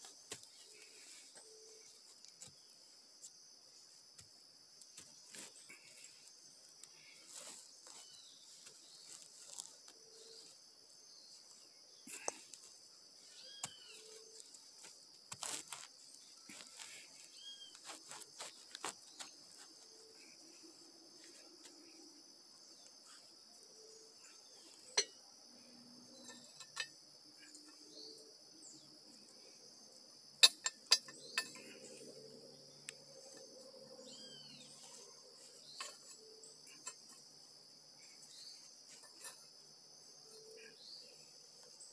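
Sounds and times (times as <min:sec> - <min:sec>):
crickets droning: 0:00.0 - 0:41.9.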